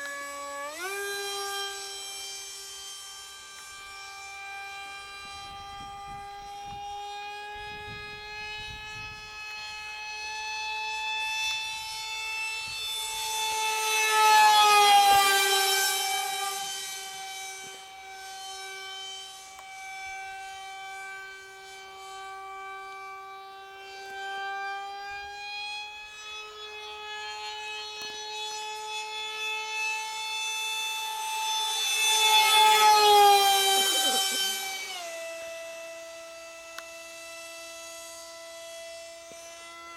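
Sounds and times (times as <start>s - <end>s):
model jet motor whining: 0.0s - 39.9s.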